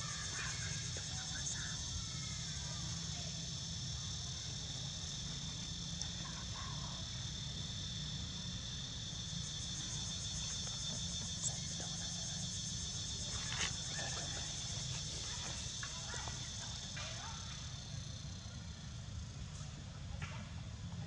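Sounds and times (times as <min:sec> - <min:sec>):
insects chirping shrilly: 0:00.0 - 0:16.9.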